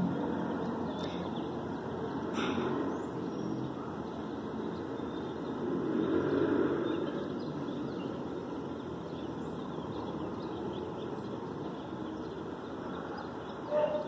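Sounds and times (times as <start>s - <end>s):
city traffic rumble: 0.0s - 14.0s
vehicle passing: 0.0s - 14.0s.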